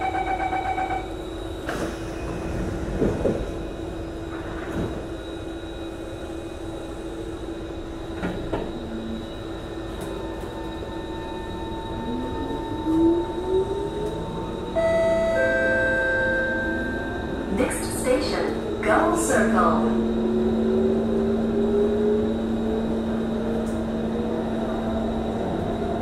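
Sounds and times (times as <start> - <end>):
train sliding doors closing: 1.2 - 26.0.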